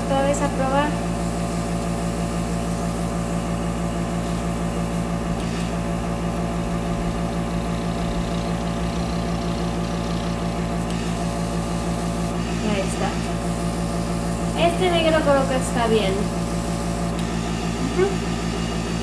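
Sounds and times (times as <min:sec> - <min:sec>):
airbrush compressor humming: 0:00.0 - 0:19.0.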